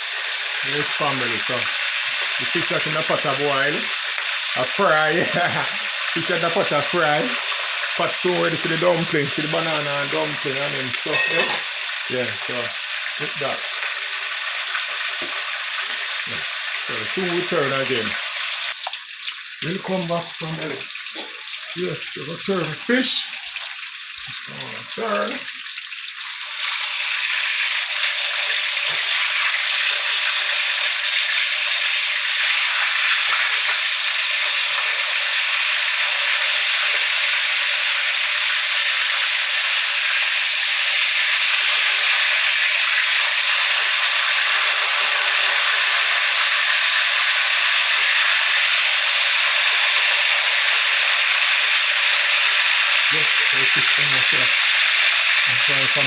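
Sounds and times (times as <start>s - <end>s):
fish sizzling in hot oil: 0.0s - 56.0s.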